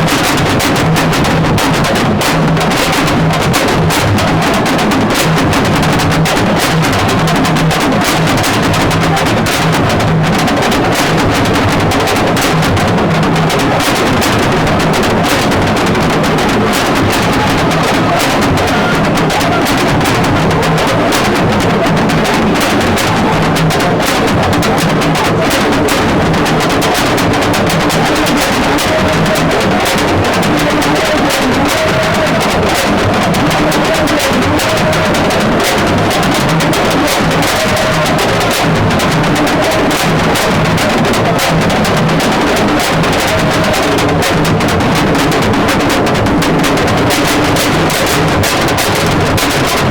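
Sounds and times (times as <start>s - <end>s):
music with fast drumming: 0.0s - 49.9s.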